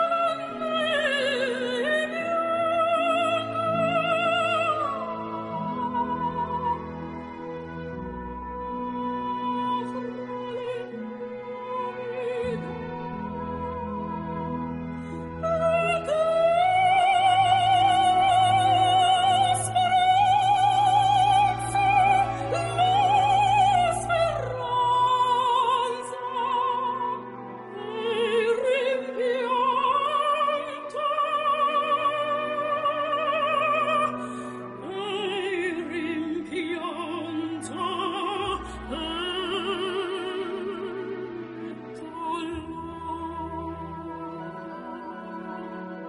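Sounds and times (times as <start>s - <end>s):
low musical accompaniment: 0.0s - 46.0s
operatic singing with vibrato: 0.0s - 46.0s.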